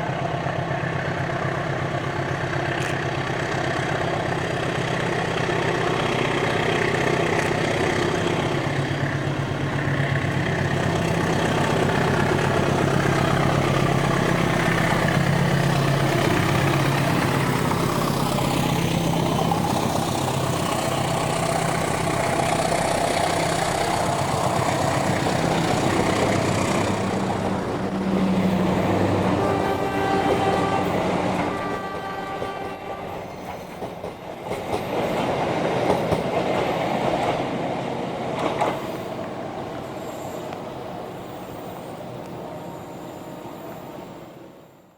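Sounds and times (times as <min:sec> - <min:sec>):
locomotive engine rumbling: 0:00.0 - 0:44.3
train cars rolling on rails: 0:00.0 - 0:44.9.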